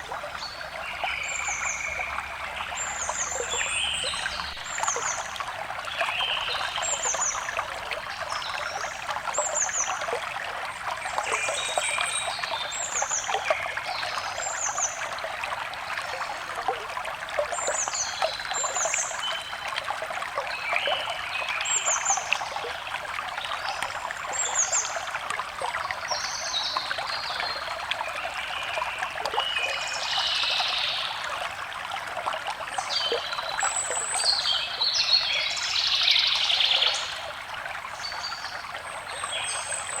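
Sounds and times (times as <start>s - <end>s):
stream trickling: 0.0s - 40.0s.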